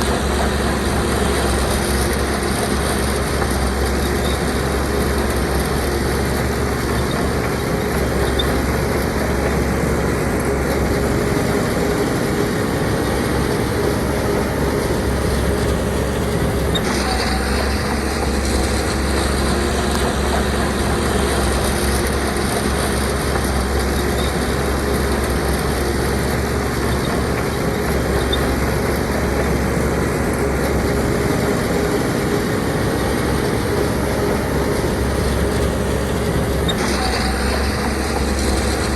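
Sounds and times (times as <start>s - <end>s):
diesel machinery engine drone: 0.0s - 38.9s.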